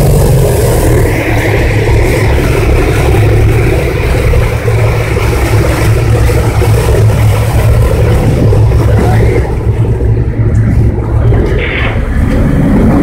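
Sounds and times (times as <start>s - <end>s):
boat engine droning: 0.0s - 13.0s
water splashing along hull: 0.0s - 13.0s.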